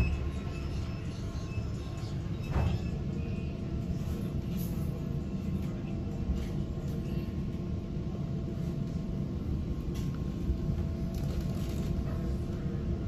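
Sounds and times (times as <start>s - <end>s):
train running noise: 0.0s - 13.0s.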